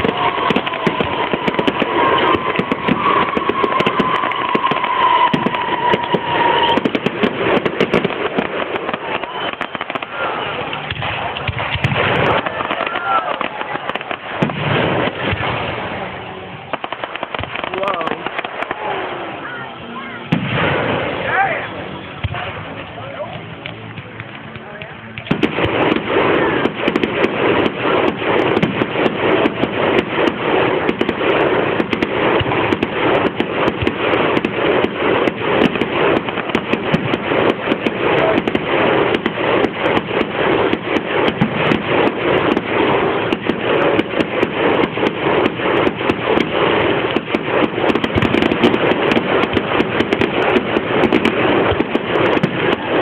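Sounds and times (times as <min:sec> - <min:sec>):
fireworks popping and crackling: 0:00.0 - 0:53.0.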